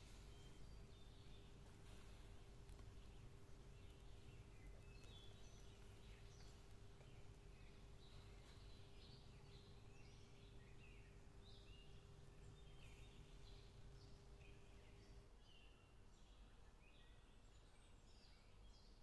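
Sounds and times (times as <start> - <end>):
faint birds chirping: 0.0 - 19.0
low steady hum: 0.0 - 19.0.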